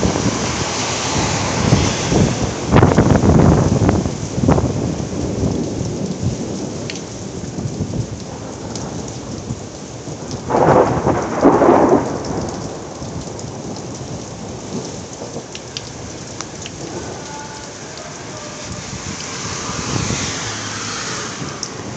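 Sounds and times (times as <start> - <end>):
heavy rain pouring: 0.0 - 21.9
thunder rumbling: 0.0 - 21.9.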